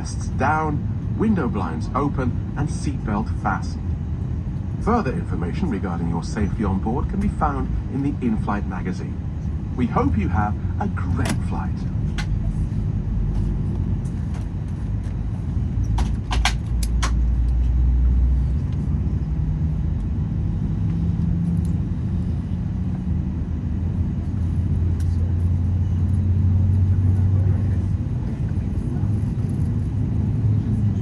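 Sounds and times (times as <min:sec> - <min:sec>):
airplane cabin engine rumble: 0:00.0 - 0:31.0.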